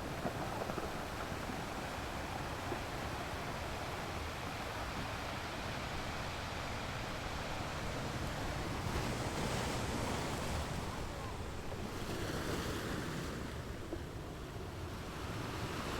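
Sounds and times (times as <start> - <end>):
ocean surf: 0.0 - 15.9.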